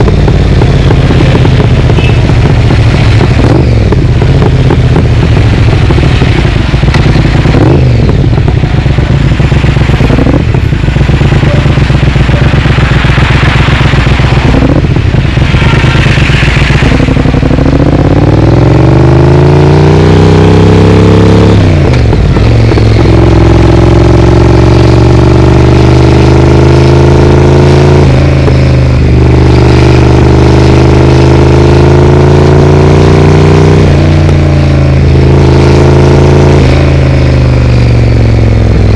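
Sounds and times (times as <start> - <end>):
motorcycle engine exhaust: 0.0 - 38.9.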